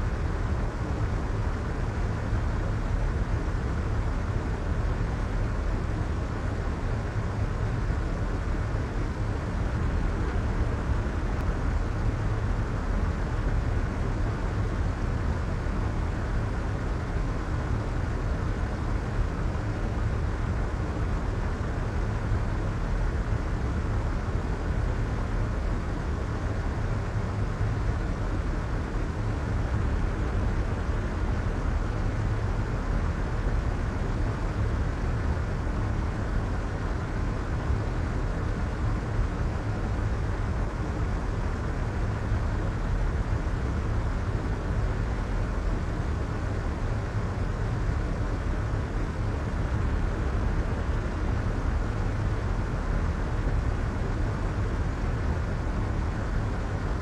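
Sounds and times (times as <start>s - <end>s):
soft white noise hiss: 0.0s - 57.0s.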